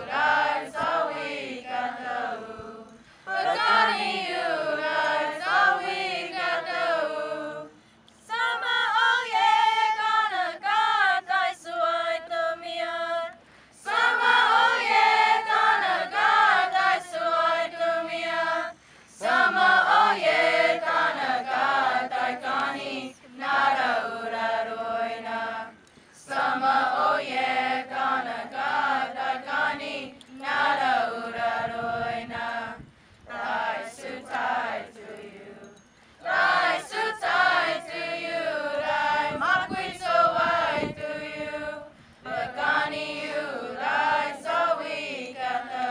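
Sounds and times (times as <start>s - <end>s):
choir singing a hymn unaccompanied: 0.0s - 45.9s.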